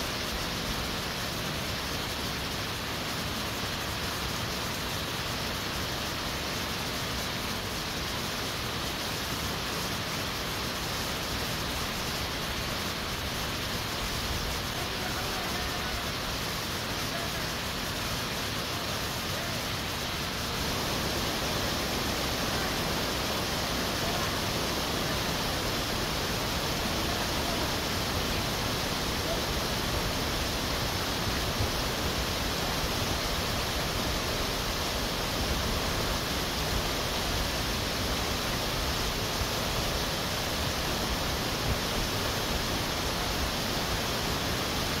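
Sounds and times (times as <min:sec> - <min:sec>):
stream rushing over boulders: 0:00.0 - 0:45.0.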